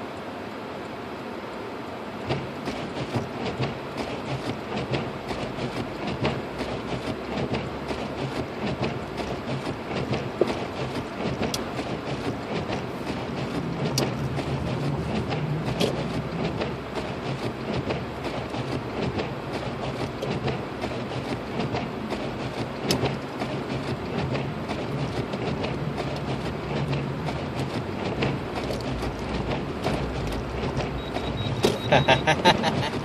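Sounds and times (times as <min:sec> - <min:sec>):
tyre and engine rumble: 0:02.2 - 0:33.0.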